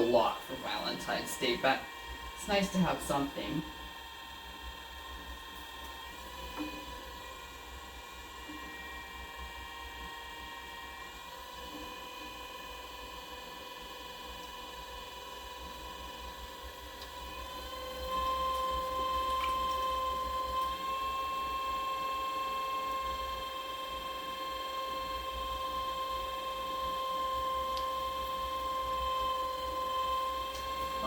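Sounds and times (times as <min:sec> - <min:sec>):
pottery wheel motor whining: 0:00.0 - 0:31.0.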